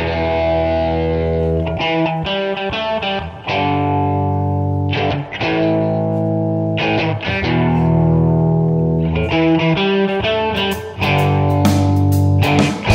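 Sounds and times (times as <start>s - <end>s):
distorted electric guitar chords: 0.0s - 12.9s.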